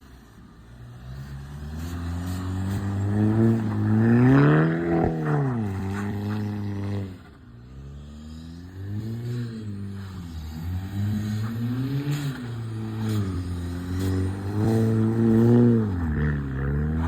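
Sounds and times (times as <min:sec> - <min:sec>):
car engine revving: 0:00.3 - 0:17.0.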